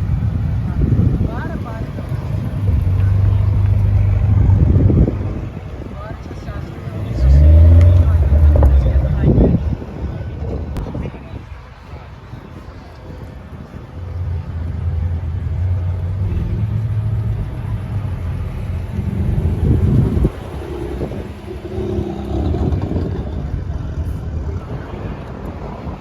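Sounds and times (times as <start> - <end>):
car engine revving: 0.0 - 10.8, 14.1 - 25.3.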